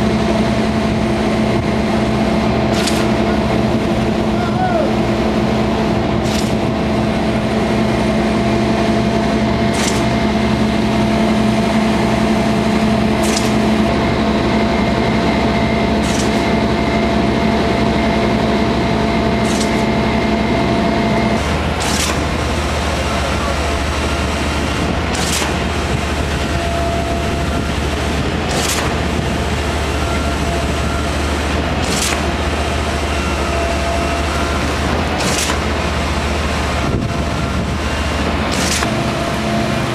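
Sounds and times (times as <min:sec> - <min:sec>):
piling rig engine and hydraulic drone: 0:00.0 - 0:39.9.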